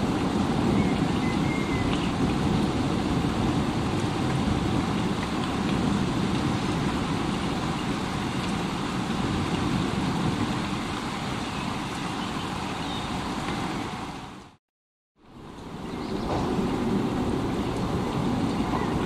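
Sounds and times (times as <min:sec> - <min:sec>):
heavy rain: 0:00.0 - 0:14.6, 0:15.2 - 0:19.0.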